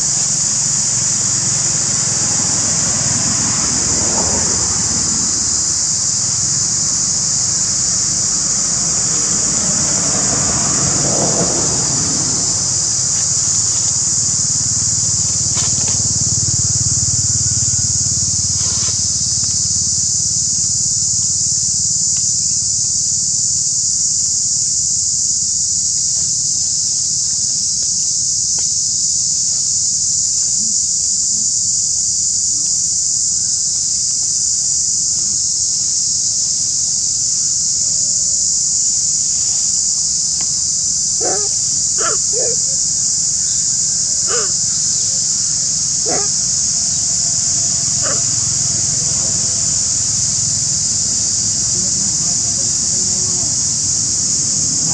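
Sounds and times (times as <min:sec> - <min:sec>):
high-pitched insect drone: 0:00.0 - 0:54.9.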